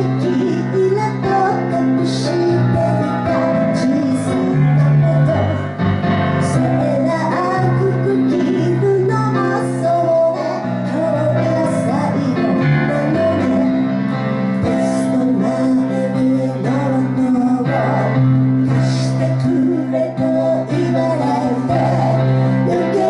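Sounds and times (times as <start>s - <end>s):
person singing: 0.0s - 23.0s
piano chords: 0.0s - 23.0s.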